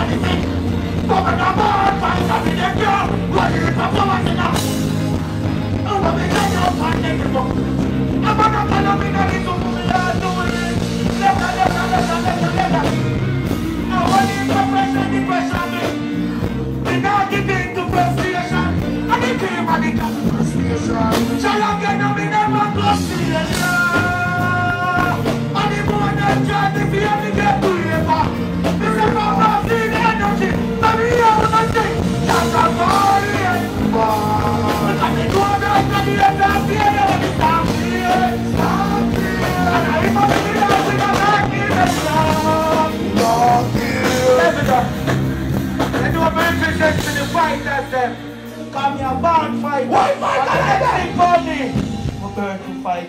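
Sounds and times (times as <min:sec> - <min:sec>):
person singing into a microphone: 0:00.0 - 0:51.8
loud dancehall backing track: 0:00.0 - 0:52.6.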